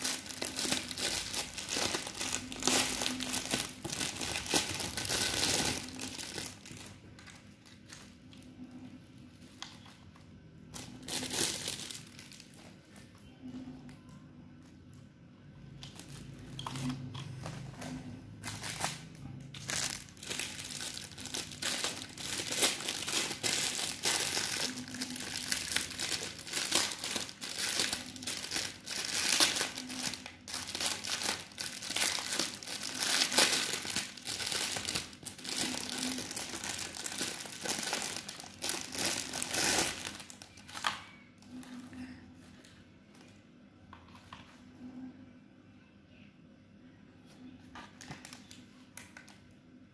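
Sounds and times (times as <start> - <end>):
plastic packaging crinkling: 0.0 - 10.0, 10.7 - 13.2, 15.8 - 41.8, 47.7 - 49.4.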